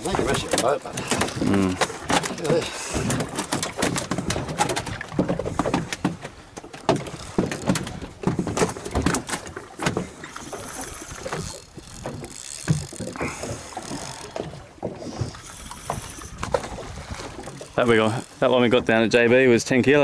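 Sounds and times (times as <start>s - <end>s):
water slapping against boat hull: 0.0s - 20.0s.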